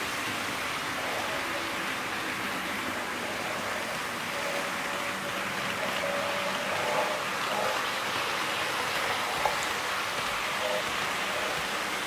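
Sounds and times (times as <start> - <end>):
model train wheels rumbling: 0.0 - 12.0.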